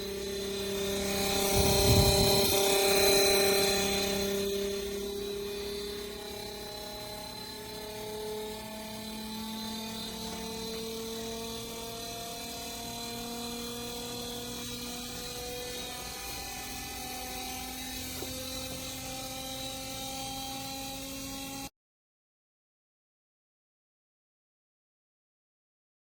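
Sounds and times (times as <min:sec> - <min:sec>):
motor hum rising in pitch: 0:00.0 - 0:21.7.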